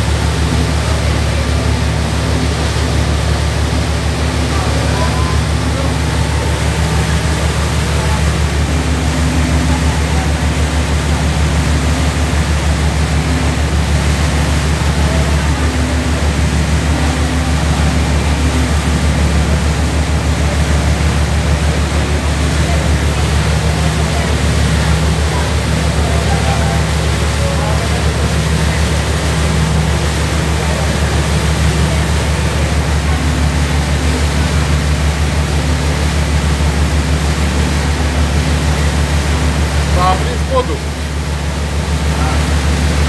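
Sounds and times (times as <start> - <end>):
boat engine droning: 0.0 - 43.0
water rushing: 0.0 - 43.0.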